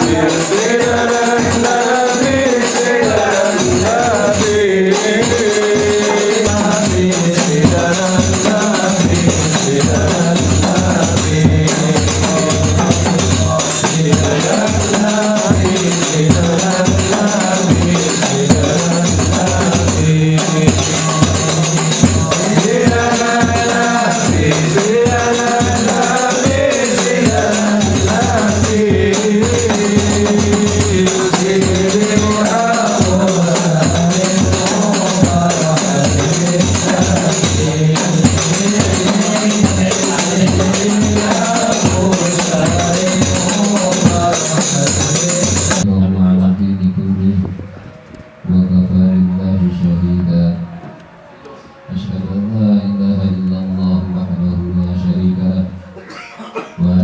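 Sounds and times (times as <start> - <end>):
barrel bass drum beating: 0.0 - 45.8
hand frame drums: 0.0 - 45.9
men singing into microphones: 0.0 - 47.7, 51.9 - 57.0.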